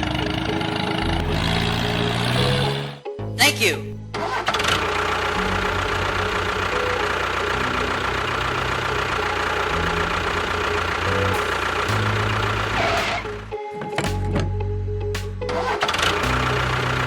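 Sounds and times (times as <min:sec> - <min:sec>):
engine chugging: 0:00.0 - 0:03.0, 0:04.0 - 0:14.6, 0:15.3 - 0:17.0.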